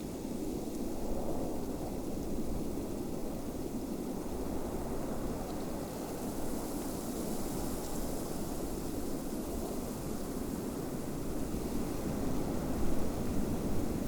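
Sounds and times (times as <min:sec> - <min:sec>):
snowstorm wind: 0:00.0 - 0:14.0.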